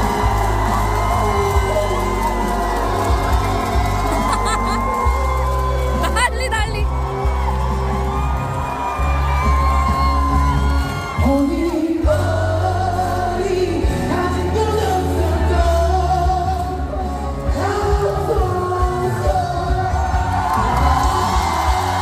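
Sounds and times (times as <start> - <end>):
person singing: 0.0 - 6.9, 9.8 - 21.8
fans whooping and yelling: 0.0 - 13.0, 17.0 - 22.0
band with heavy bass beat: 0.0 - 22.0.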